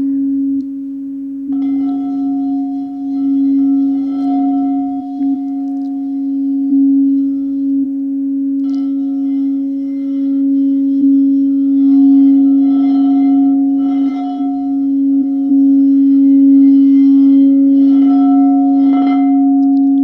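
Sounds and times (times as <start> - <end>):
higher singing bowl tone: 0.0 - 20.0
low singing bowl tone: 0.0 - 20.0.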